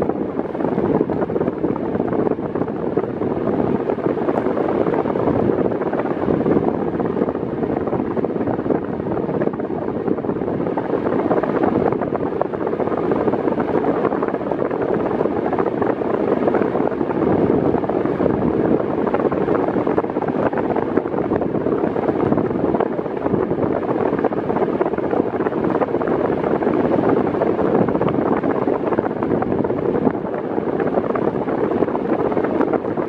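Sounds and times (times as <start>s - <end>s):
fan airflow wind noise: 0.0s - 33.0s.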